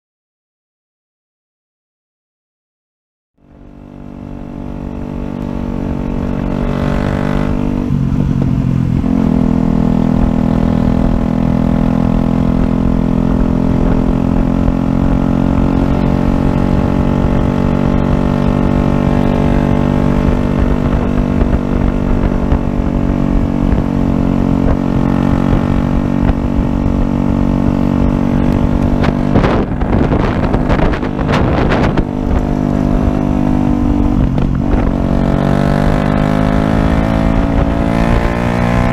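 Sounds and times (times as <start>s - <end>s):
motorcycle engine running: 3.4s - 38.9s
wind rumble on microphone: 3.6s - 38.9s.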